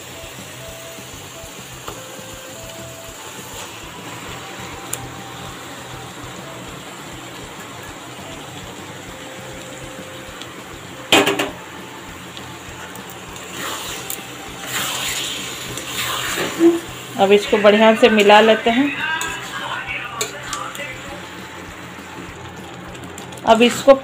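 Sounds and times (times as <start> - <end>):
spices frying in a pan: 0.0 - 24.0.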